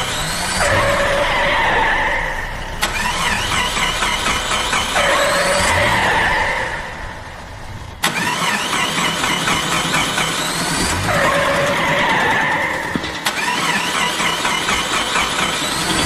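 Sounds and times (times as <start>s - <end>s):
engine starting with rising whines: 0.0s - 16.0s.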